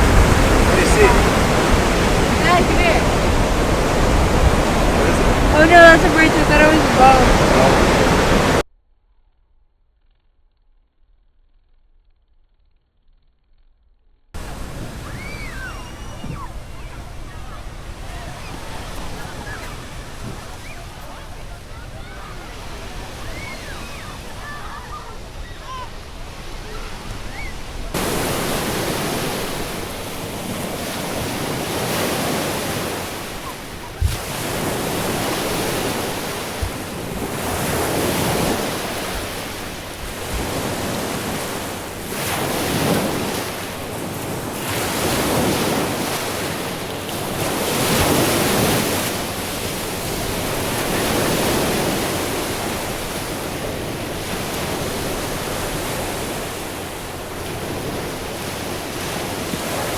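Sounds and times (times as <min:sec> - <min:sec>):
waves breaking on beach: 0:00.0 - 0:08.6, 0:14.4 - 0:59.9
wind buffeting microphone: 0:00.0 - 0:08.6, 0:14.4 - 0:59.9.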